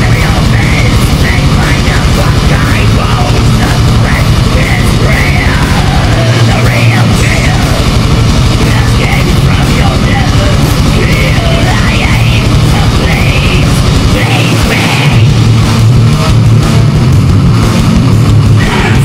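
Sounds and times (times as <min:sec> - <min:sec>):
yelled vocals: 0:00.0 - 0:17.7, 0:18.4 - 0:19.0
distorted heavy music: 0:00.0 - 0:19.0
steady low drone: 0:00.0 - 0:19.0.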